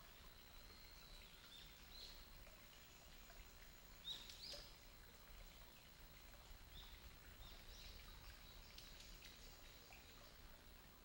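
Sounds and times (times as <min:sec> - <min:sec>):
woodland background hiss: 0:00.0 - 0:11.0.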